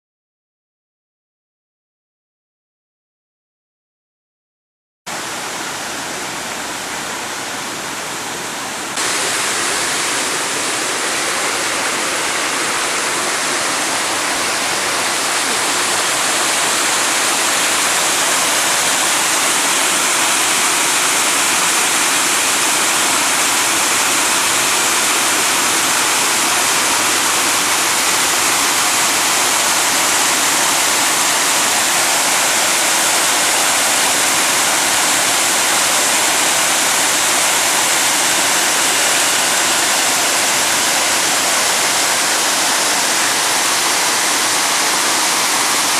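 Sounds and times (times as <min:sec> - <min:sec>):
creek water rushing: 0:05.1 - 0:45.9.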